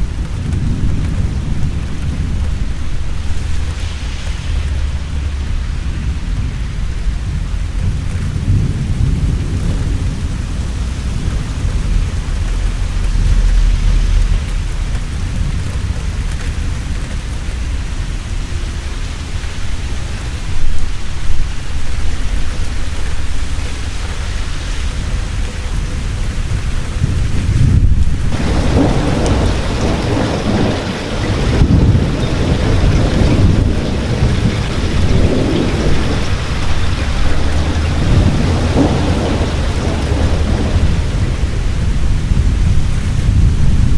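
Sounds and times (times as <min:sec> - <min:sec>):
heavy rain falling: 0:00.0 - 0:43.9
rolling thunder: 0:00.0 - 0:43.9.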